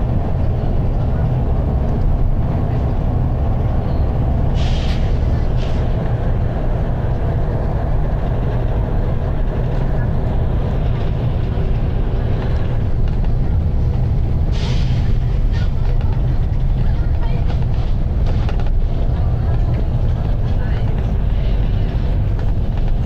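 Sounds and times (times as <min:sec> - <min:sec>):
diesel bus engine rumbling: 0:00.0 - 0:23.0.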